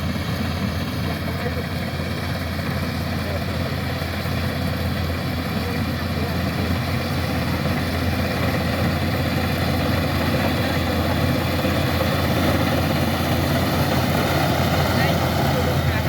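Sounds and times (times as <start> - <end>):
combine harvester engine droning: 0.0 - 16.0.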